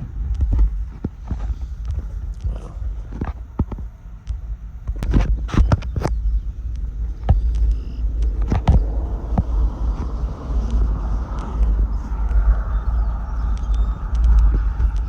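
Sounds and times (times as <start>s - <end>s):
low road rumble: 0.0s - 15.0s.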